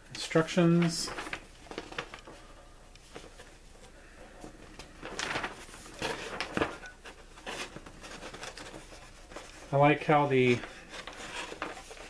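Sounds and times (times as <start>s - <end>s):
paper booklet rustling: 0.1s - 12.0s.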